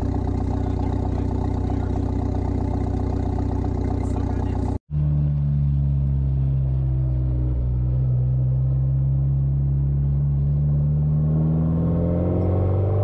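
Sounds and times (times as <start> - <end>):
loud low diesel exhaust drone: 0.0 - 11.0.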